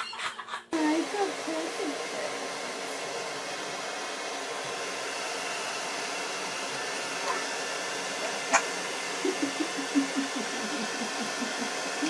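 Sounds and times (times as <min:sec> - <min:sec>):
hair dryer blowing: 0:00.8 - 0:12.0.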